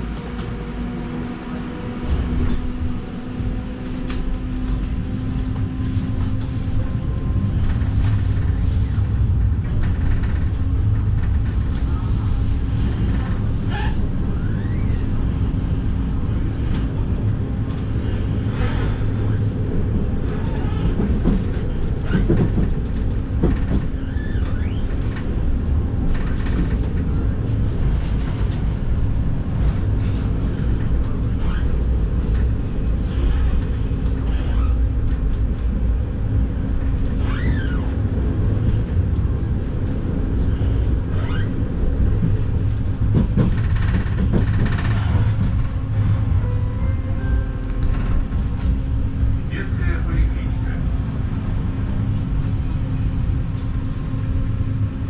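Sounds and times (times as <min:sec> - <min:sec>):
constant hum: 0:00.0 - 0:55.0
tram running gear rumble: 0:00.0 - 0:55.0.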